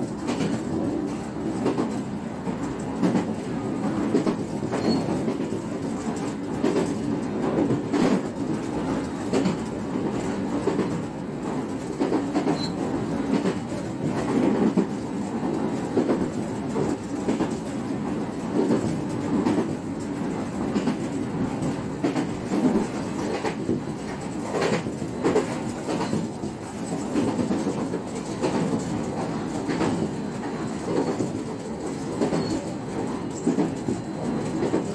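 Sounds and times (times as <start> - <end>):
electric train rumble: 0.0 - 34.9.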